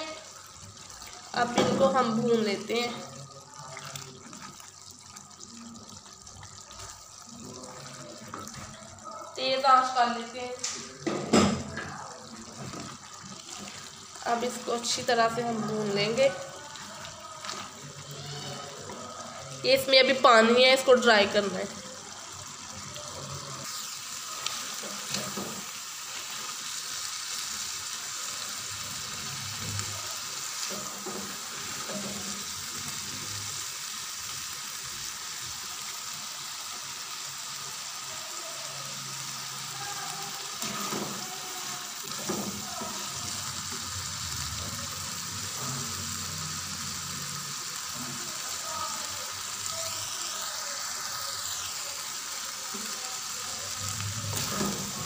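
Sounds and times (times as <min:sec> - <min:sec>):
curry boiling and sizzling: 0:00.0 - 0:55.0.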